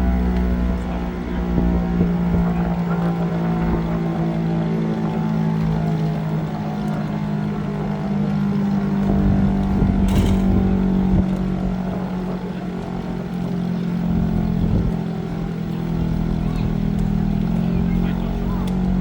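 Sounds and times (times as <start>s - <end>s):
siren steady low drone: 0.0s - 19.0s.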